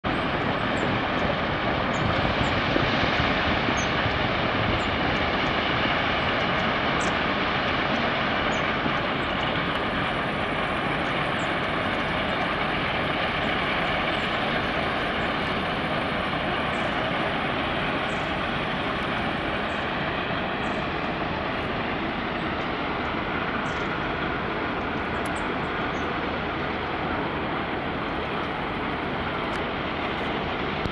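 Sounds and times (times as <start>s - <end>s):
industrial rumble and hiss: 0.1s - 30.9s.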